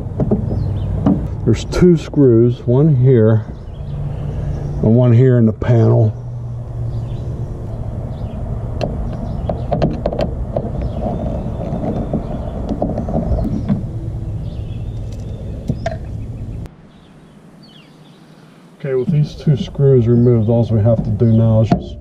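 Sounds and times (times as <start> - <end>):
low mechanical hum: 0.0 - 21.8.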